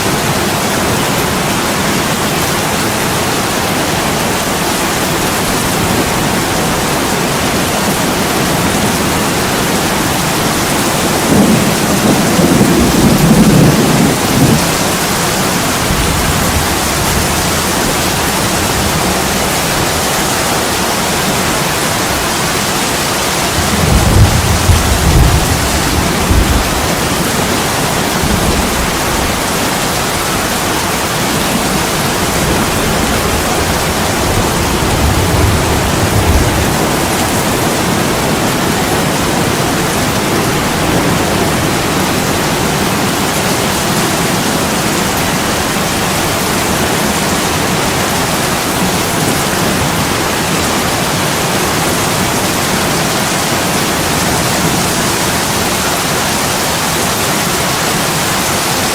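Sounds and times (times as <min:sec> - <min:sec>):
heavy rain on a window: 0:00.0 - 0:58.9.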